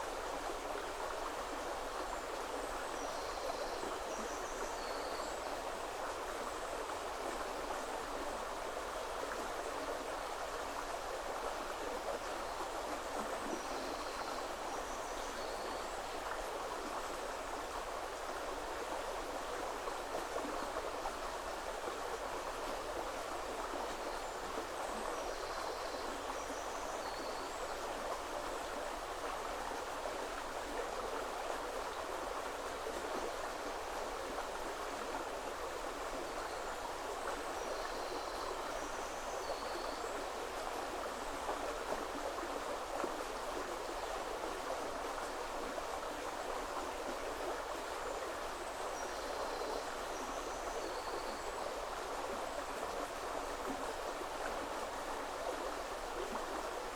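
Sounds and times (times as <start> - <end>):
river flowing: 0.0 - 56.9.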